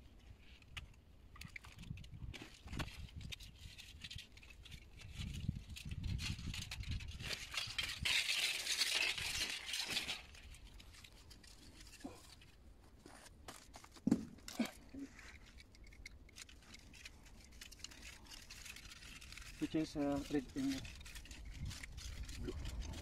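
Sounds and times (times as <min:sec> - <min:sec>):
rustling and scraping: 0:00.0 - 0:23.0.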